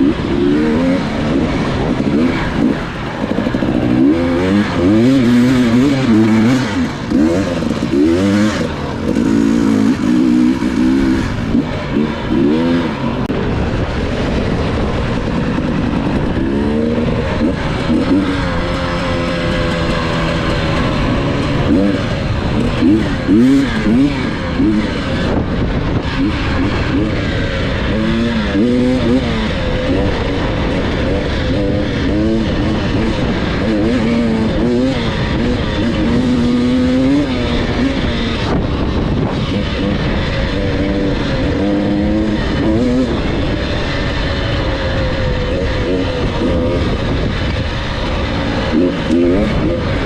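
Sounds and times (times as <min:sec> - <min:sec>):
constant noisy rush: 0:00.0 - 0:50.0
dirt bike engine revving: 0:00.0 - 0:50.0.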